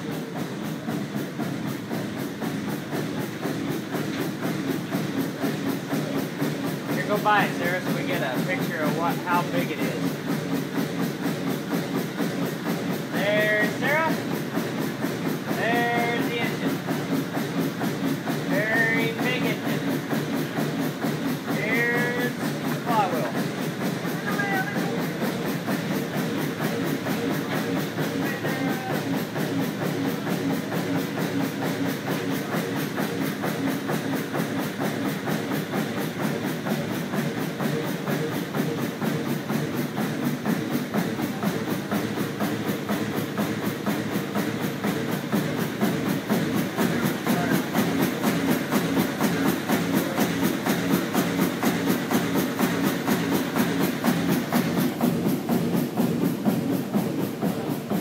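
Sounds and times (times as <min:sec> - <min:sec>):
stationary engine running: 0:00.0 - 0:58.0.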